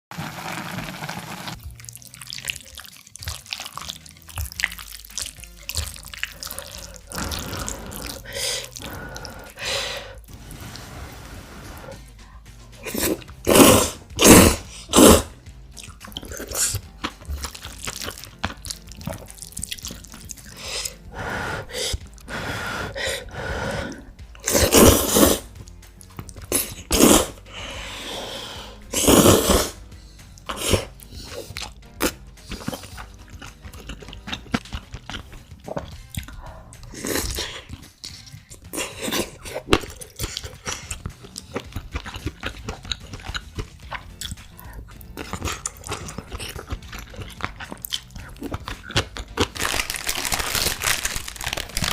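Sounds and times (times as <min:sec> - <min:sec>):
slurping noodles: 0:00.1 - 0:12.2, 0:12.8 - 0:25.6, 0:26.4 - 0:49.7
wet chewing: 0:01.5 - 0:10.4, 0:11.9 - 0:21.1, 0:21.7 - 0:27.9, 0:28.8 - 0:51.9.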